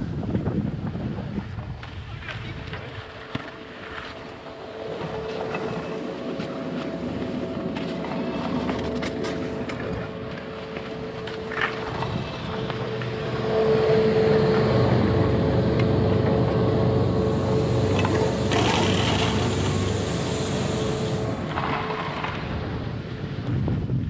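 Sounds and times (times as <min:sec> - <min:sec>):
ski tow mechanical hum: 0:00.7 - 0:23.6
skis scraping over snow: 0:01.0 - 0:23.6.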